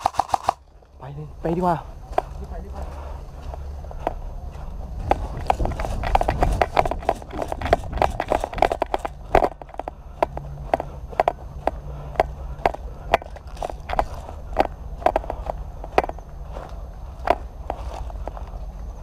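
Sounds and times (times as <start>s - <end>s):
footsteps crunching on gravel: 0.7s - 19.0s.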